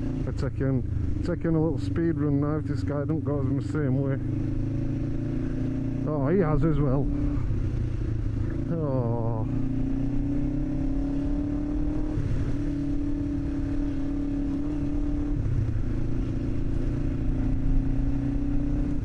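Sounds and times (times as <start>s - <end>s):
motorcycle engine at high revs: 0.0s - 19.0s
wind and road noise rumble: 0.0s - 19.0s.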